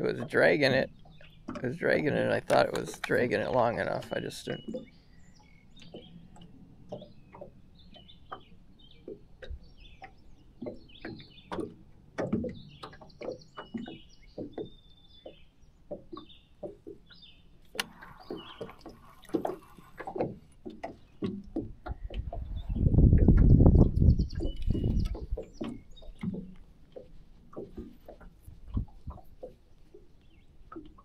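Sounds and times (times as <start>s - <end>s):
birds chirping: 0.0s - 31.0s
waves lapping against boat hull: 0.0s - 31.0s.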